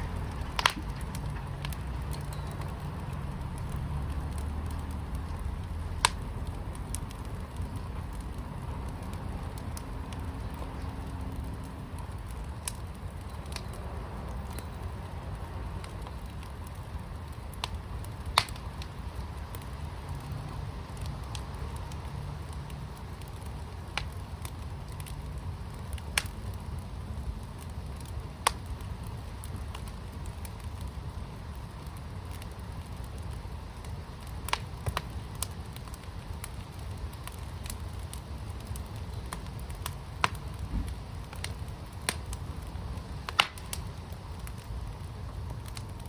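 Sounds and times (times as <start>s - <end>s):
fire crackling: 0.0s - 46.0s.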